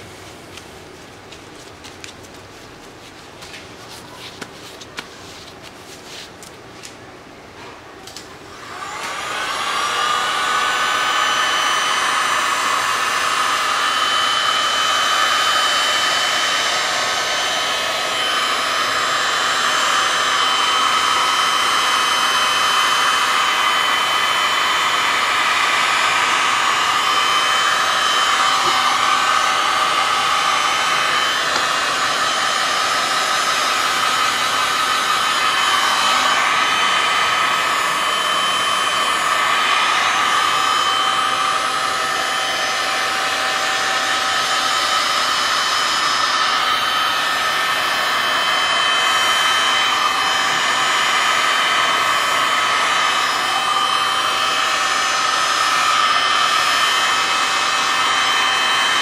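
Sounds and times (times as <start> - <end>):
heat gun blowing with fan whine: 8.0 - 59.0.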